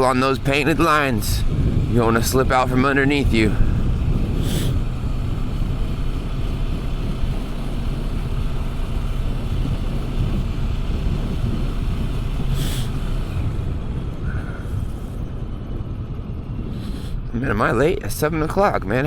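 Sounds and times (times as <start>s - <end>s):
motorcycle engine drone: 0.0s - 19.0s
wind noise: 0.0s - 19.0s.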